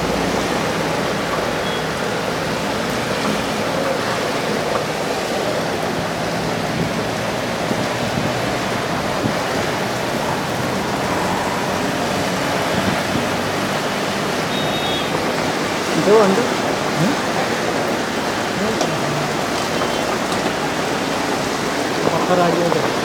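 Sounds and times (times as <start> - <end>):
heavy rain on pavement: 0.0 - 23.0.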